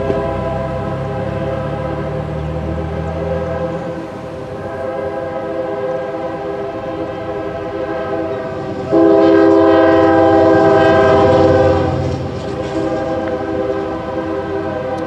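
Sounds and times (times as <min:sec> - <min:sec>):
locomotive air horn: 0:00.0 - 0:15.0
train rumbling past: 0:00.0 - 0:15.0.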